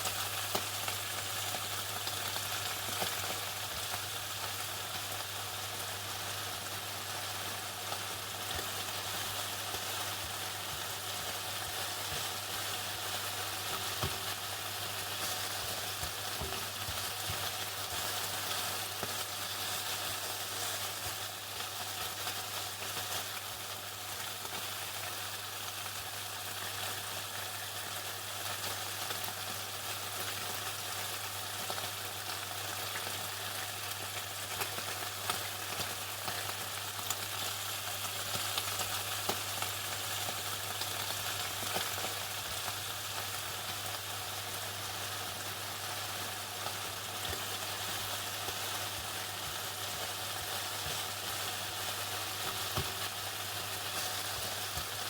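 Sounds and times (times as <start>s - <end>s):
oil sizzling while deep-frying: 0.0s - 55.0s.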